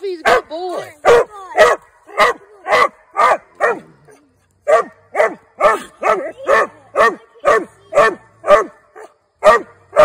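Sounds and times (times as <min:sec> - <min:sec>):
hound barking: 0:00.2 - 0:10.0.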